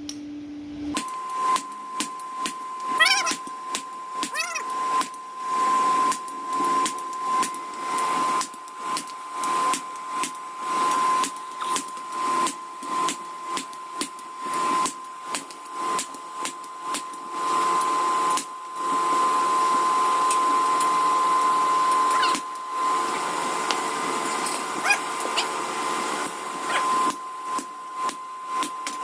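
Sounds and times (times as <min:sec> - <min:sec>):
workshop machine whining: 0:00.0 - 0:29.0.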